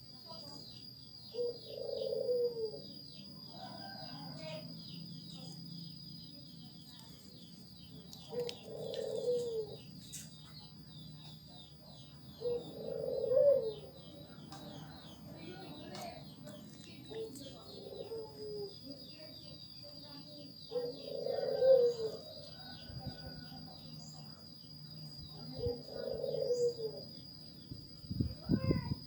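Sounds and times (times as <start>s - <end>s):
dove cooing: 1.2s - 5.6s, 7.4s - 29.0s.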